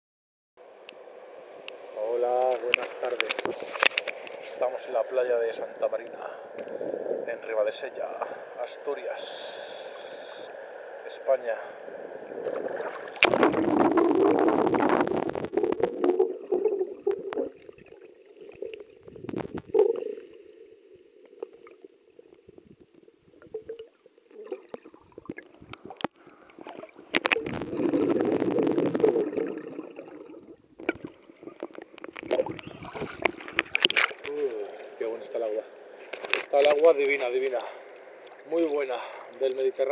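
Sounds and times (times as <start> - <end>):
water rushing and bubbling underwater: 0.6 - 39.9.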